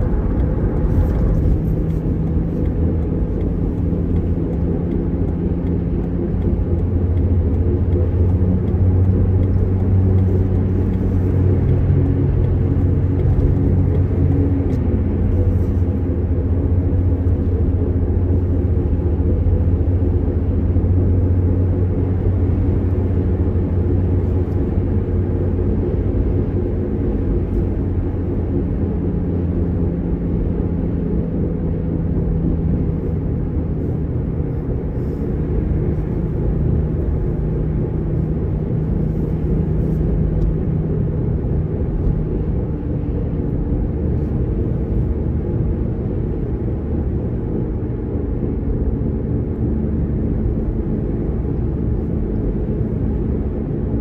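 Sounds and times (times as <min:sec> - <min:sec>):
car road and engine rumble: 0:00.0 - 0:54.0
low hum: 0:00.0 - 0:54.0.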